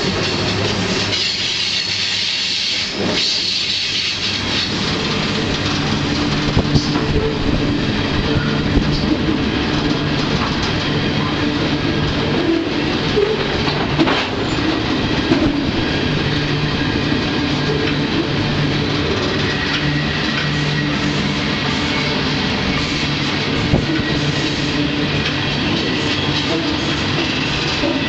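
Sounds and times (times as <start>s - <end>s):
train wheels rumbling and rattling: 0.0s - 28.0s.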